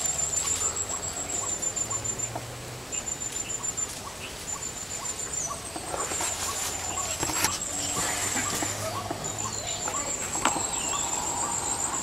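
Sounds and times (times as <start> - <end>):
insect pulsed trill: 0.0 - 12.0.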